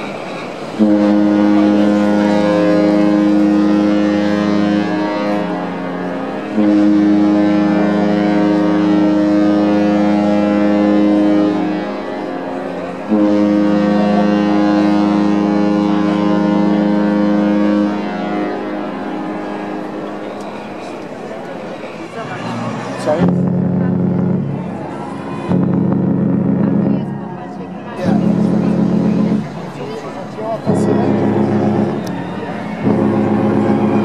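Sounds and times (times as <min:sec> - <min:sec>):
deep ship horn blasts: 0:00.0 - 0:34.0.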